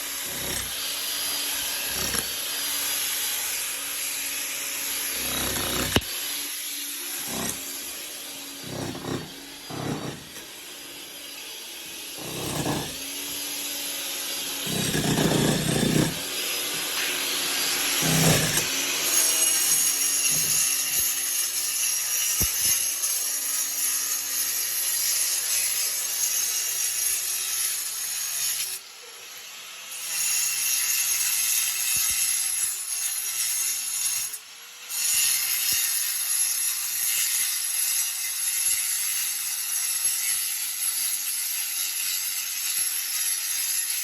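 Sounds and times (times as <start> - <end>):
hand tool rasping strokes: 0.0 - 28.8, 29.9 - 44.0.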